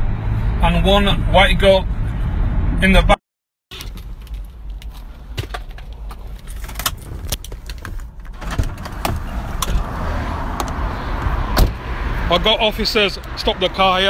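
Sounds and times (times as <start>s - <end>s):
car road rumble: 0.0s - 14.0s.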